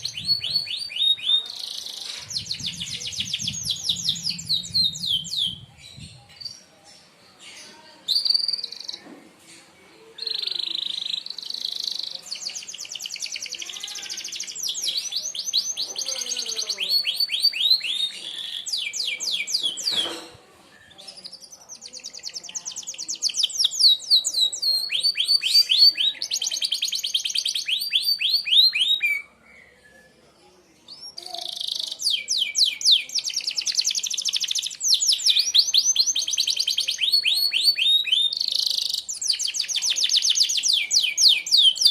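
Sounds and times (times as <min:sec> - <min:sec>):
canary singing: 0:00.0 - 0:09.0, 0:10.1 - 0:30.2, 0:30.8 - 0:41.9.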